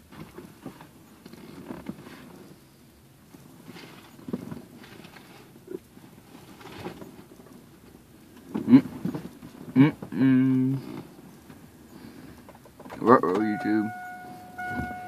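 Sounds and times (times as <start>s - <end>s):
rummaging knocks and rustling in car: 0.0s - 2.6s, 3.3s - 10.2s, 10.8s - 15.0s.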